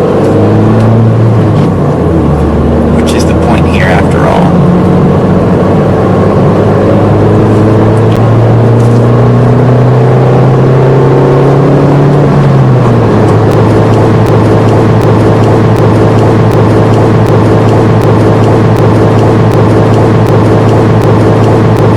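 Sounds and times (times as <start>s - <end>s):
car engine while driving: 0.0s - 21.9s.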